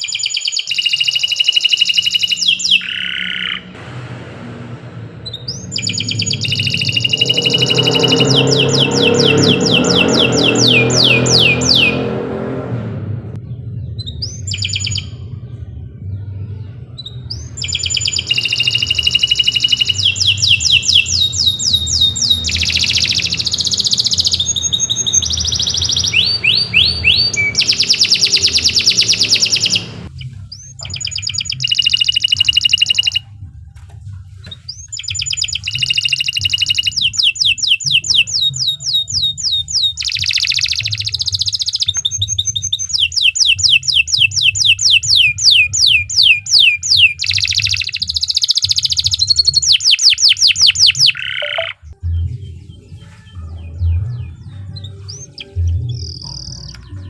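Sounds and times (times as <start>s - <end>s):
canary singing trills: 0.0s - 3.7s, 5.3s - 12.3s, 13.5s - 33.4s, 34.5s - 57.0s.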